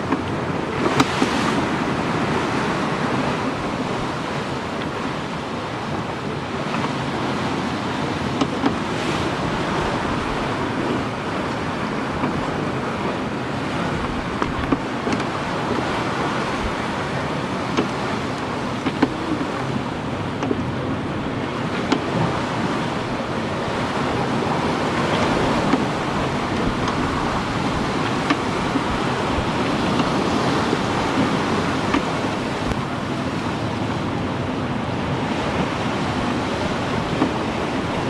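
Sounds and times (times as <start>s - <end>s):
sea water rushing along hull: 0.0s - 38.0s
wind: 0.0s - 38.0s.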